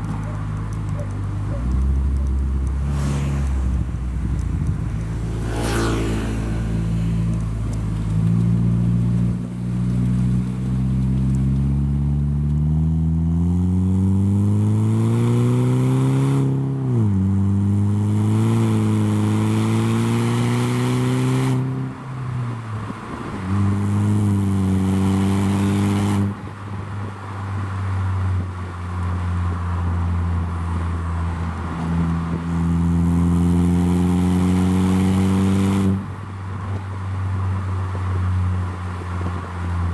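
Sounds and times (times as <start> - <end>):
car engine under load: 0.0 - 39.9.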